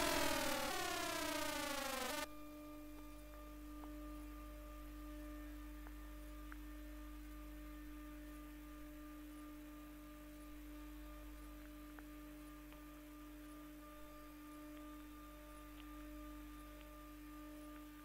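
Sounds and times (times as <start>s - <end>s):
train inverter electrical hum: 0.0s - 18.0s.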